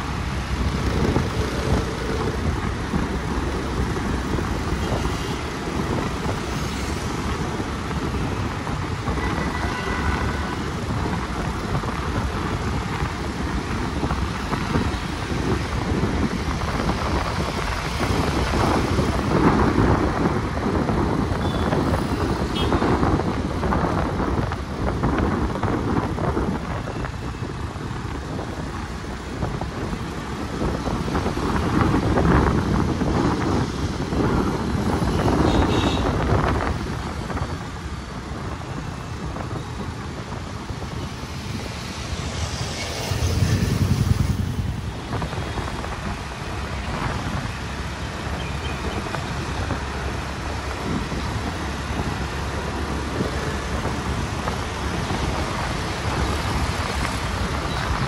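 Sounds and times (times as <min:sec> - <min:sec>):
car driving through traffic: 0:00.0 - 0:58.0.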